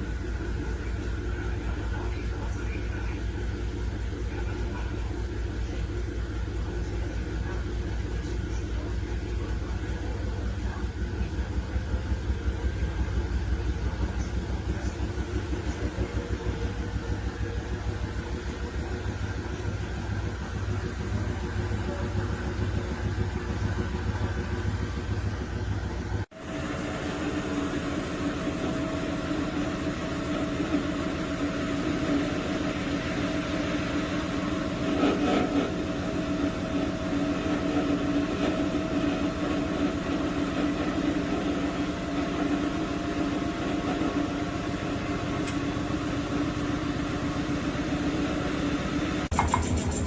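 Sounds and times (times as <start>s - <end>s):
washing machine hum: 0.0s - 50.0s.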